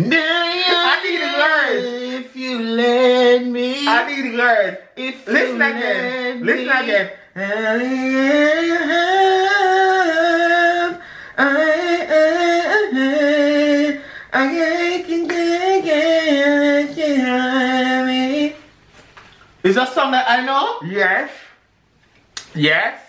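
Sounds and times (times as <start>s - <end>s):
man singing in high voice: 0.0s - 18.7s.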